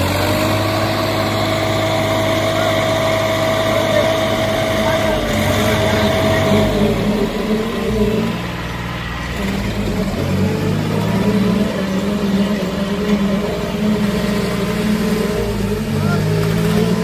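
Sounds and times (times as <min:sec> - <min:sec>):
tractor engines running under load: 0:00.0 - 0:17.0.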